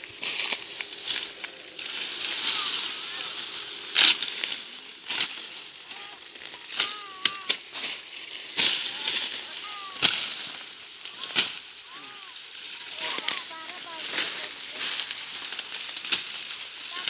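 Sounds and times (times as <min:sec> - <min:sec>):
cane stalks snapping: 0:00.0 - 0:17.0
dry leaves rustling and crackling: 0:00.0 - 0:17.0.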